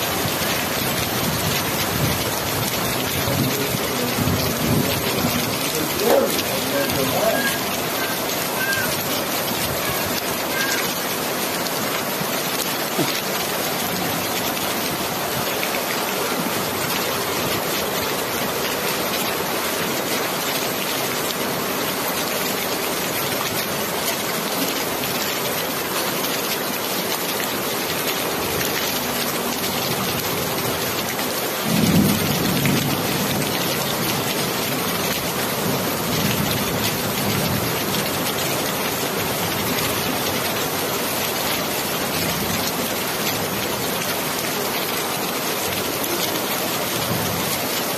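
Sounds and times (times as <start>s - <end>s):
rain falling: 0.0s - 47.9s.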